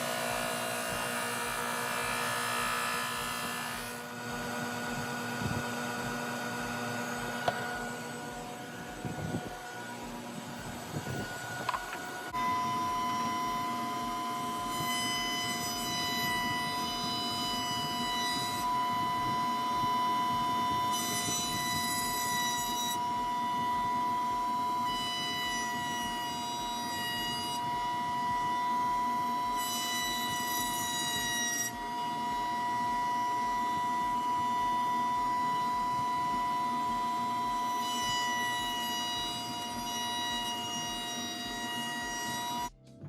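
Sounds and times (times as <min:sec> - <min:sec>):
power tool motor whine: 0:00.0 - 0:42.8.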